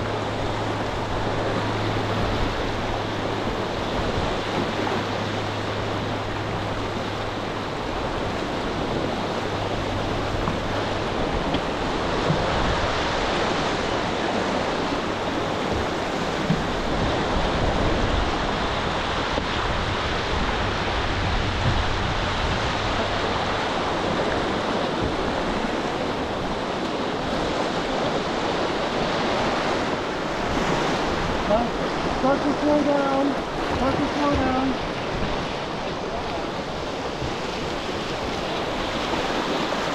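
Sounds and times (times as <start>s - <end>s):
whitewater rushing: 0.0s - 39.9s.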